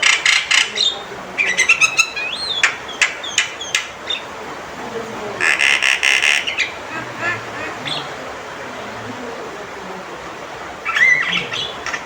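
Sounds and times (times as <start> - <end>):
myna calling: 0.0 - 12.0.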